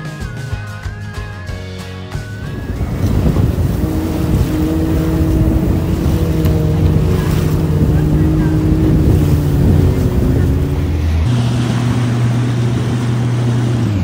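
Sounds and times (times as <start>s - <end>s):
motorboat engine droning: 2.3s - 14.0s
water noise: 2.4s - 14.0s
wind noise: 2.4s - 14.0s.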